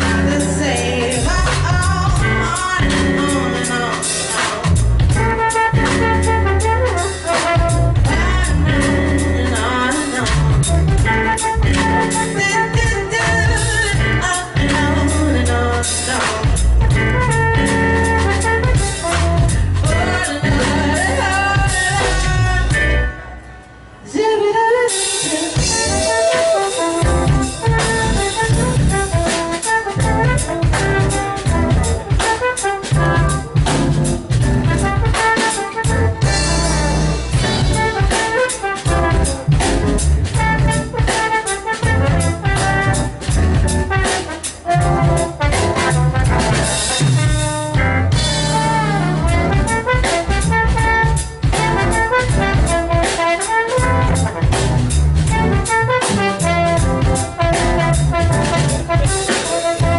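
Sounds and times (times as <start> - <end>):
trombone: 0.0 - 23.2, 25.4 - 59.9
drum kit: 0.0 - 24.0, 24.8 - 59.9.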